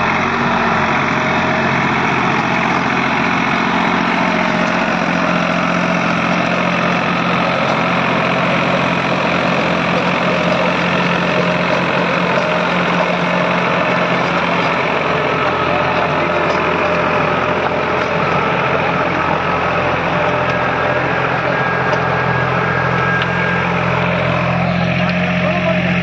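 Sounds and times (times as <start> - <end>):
rotavator churning soil: 0.0 - 26.0
tractor diesel engine under load: 0.0 - 26.0.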